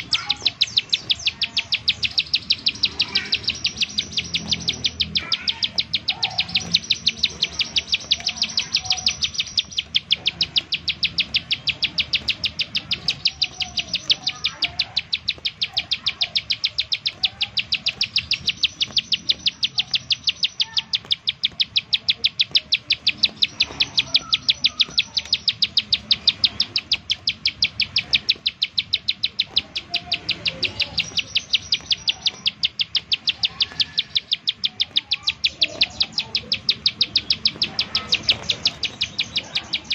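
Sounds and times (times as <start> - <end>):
bird calling in rapid high notes: 0.0 - 39.9.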